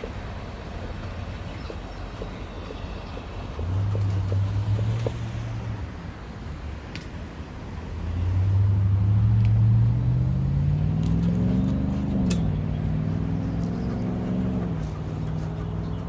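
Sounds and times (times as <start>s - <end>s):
vehicle engine revving: 1.1s - 6.1s, 7.2s - 16.0s.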